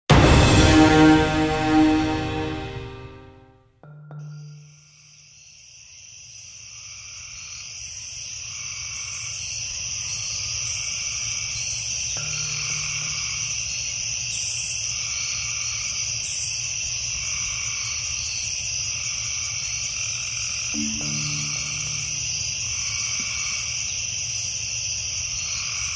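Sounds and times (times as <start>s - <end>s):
frog calls: 4.2s - 25.9s
insects trilling: 4.2s - 25.9s.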